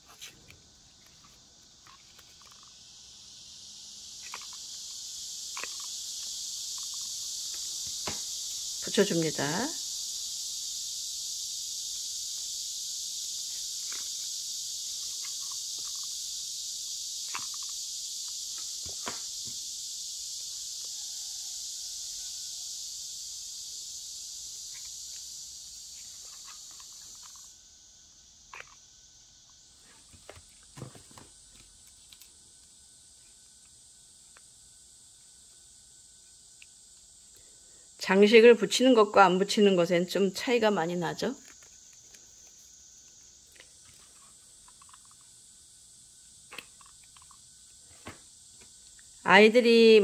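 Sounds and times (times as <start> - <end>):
steady high hiss: 0.0 - 50.0.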